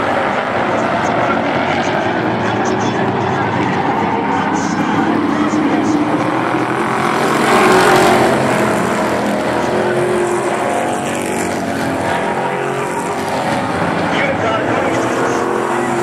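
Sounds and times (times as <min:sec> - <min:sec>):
race truck engines droning: 0:00.0 - 0:16.0.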